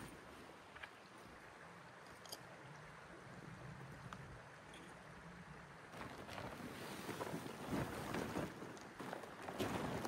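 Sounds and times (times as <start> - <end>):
forest stream rushing: 0.0 - 10.0.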